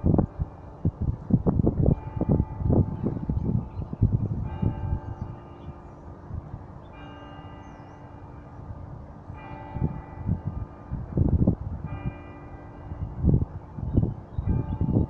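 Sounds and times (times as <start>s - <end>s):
church bells ringing: 0.0s - 0.9s, 1.7s - 15.0s.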